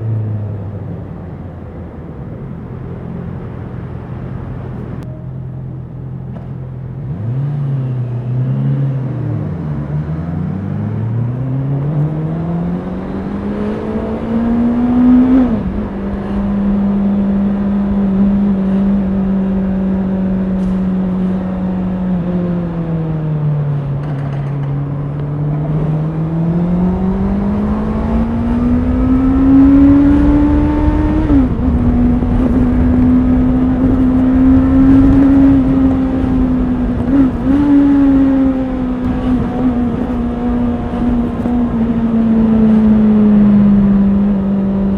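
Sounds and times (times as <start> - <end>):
motorcycle engine revving through gears: 6.0 - 44.9.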